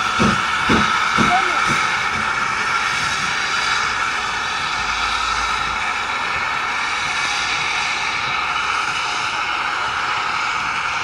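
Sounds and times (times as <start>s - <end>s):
steam locomotive rushing: 0.0s - 11.0s.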